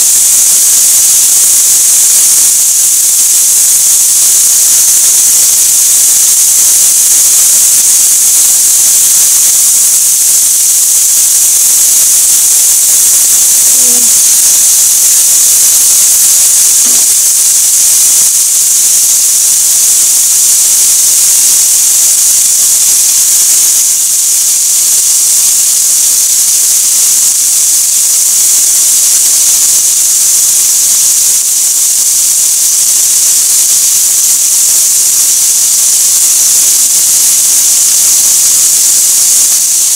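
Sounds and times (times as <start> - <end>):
chicken frying with high sizzle: 0.0 - 39.9.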